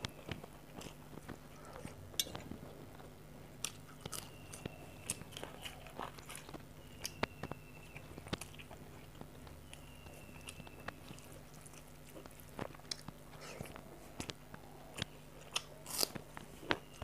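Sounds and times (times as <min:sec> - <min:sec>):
clicks and crunches of food: 0:00.0 - 0:17.0
person chewing food: 0:00.0 - 0:17.0.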